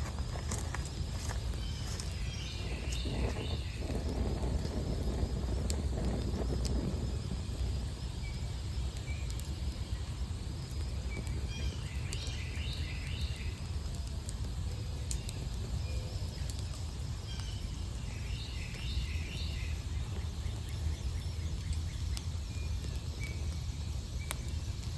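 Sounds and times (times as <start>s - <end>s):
steady low rumble: 0.0s - 24.9s
wood fire crackling: 0.0s - 24.9s
wren singing: 0.4s - 13.9s, 14.8s - 24.9s.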